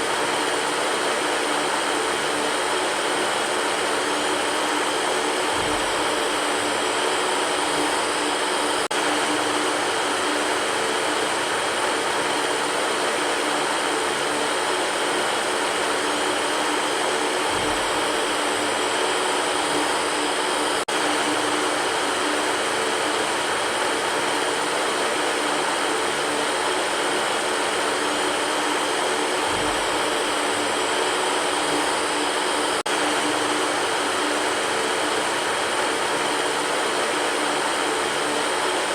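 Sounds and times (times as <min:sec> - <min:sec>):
electric fan running: 0:00.0 - 0:38.9.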